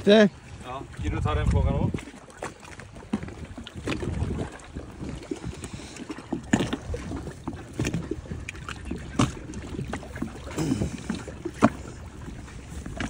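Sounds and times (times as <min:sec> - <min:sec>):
water sloshing against boat: 0:00.0 - 0:13.0.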